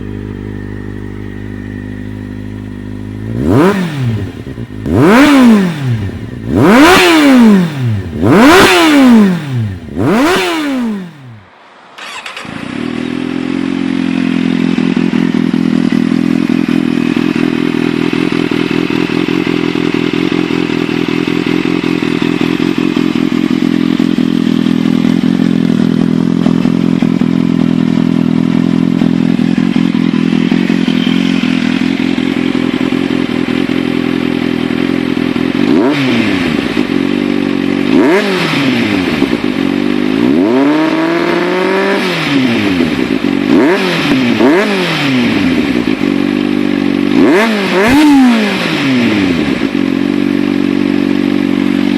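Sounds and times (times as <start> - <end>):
motorcycle engine revving and idling: 0.0 - 51.9.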